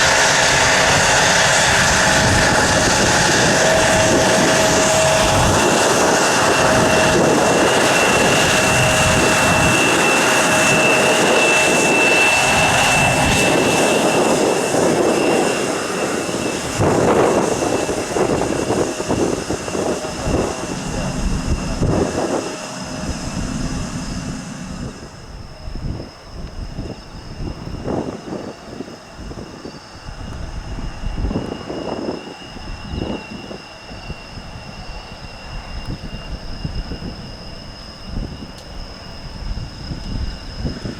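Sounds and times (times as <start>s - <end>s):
jet engines high whine: 0.0s - 40.9s.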